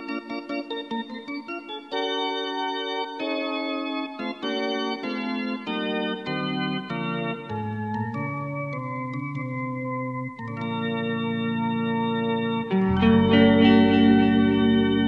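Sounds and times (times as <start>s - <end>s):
organ keyboard chords: 0.0s - 15.0s.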